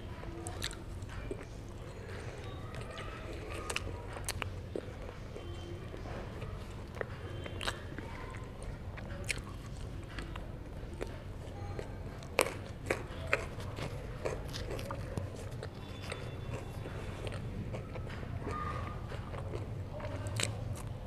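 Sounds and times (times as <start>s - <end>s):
chewing and biting: 0.3s - 21.0s.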